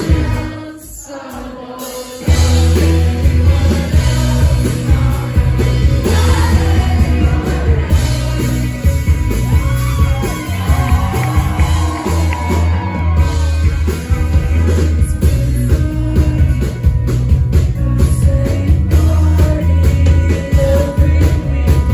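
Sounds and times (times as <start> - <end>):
lead singer singing: 0.0 - 13.3, 14.8 - 21.9
rock band playing live: 0.0 - 21.9.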